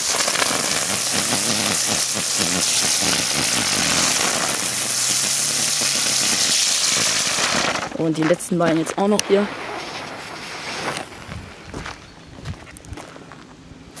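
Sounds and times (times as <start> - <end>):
firework sparks hissing: 0.0 - 12.2.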